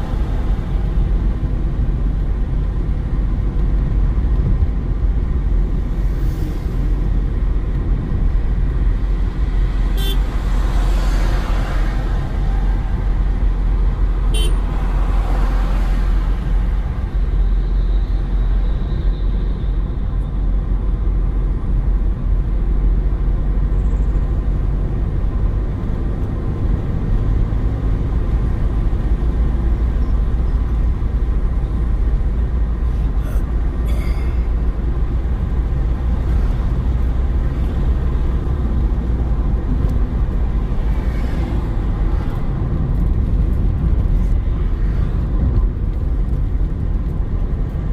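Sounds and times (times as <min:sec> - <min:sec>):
car road and engine rumble: 0:00.0 - 0:47.9.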